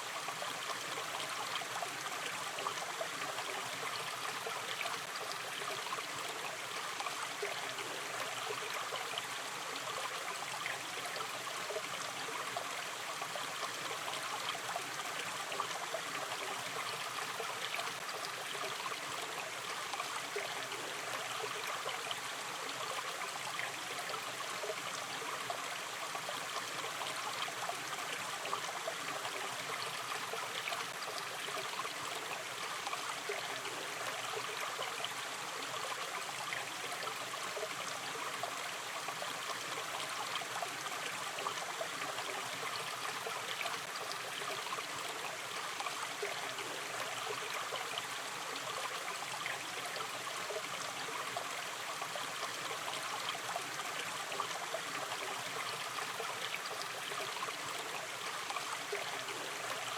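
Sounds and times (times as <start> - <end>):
stream babbling: 0.0 - 59.9.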